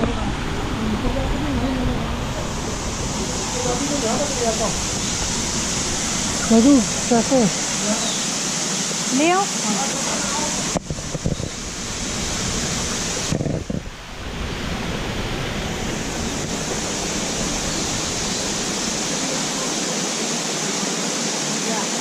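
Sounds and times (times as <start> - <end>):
steady rushing hiss: 0.0 - 22.0.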